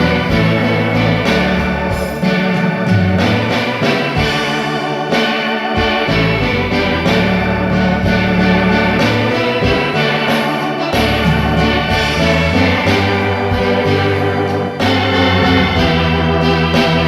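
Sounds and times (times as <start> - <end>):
organ keyboard music: 0.0 - 17.0.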